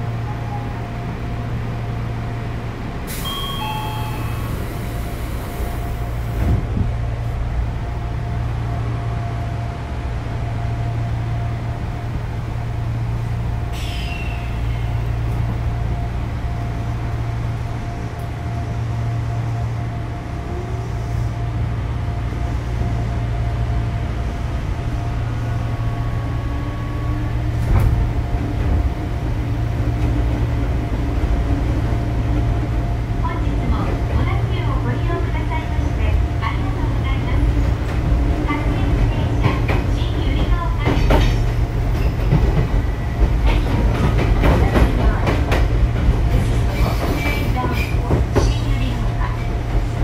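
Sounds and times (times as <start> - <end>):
electric train hum: 0.0 - 50.0.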